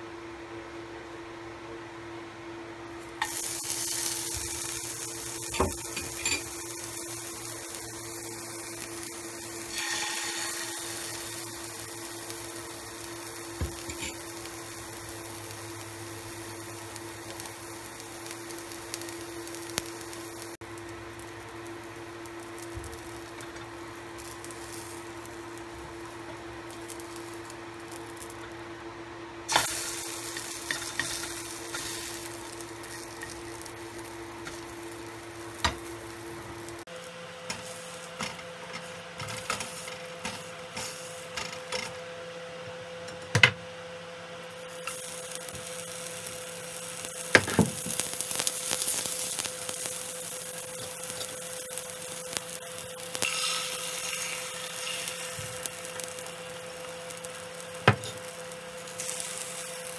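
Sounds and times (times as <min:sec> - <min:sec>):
steady hum: 0:00.0 - 0:59.9
egg sizzling in oil: 0:03.0 - 0:28.7, 0:29.5 - 0:41.7, 0:44.5 - 0:59.9.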